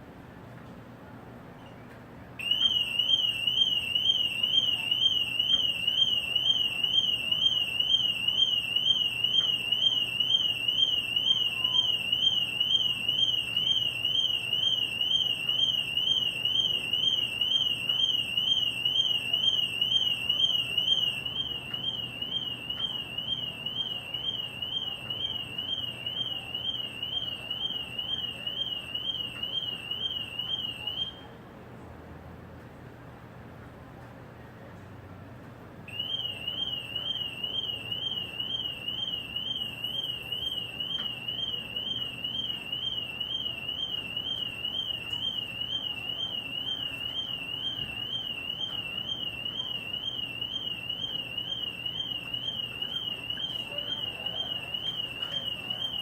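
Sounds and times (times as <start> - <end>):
car alarm siren warbling: 2.4 - 31.3, 35.9 - 56.0.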